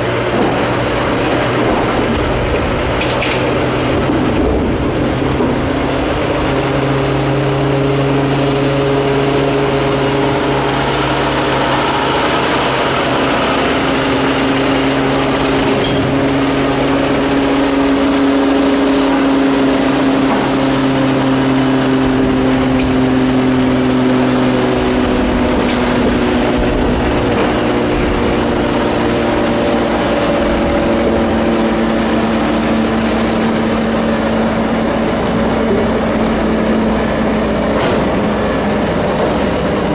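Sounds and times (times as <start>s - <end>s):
diesel engine running: 0.0s - 39.9s
wheels rumbling on rails: 0.0s - 39.9s.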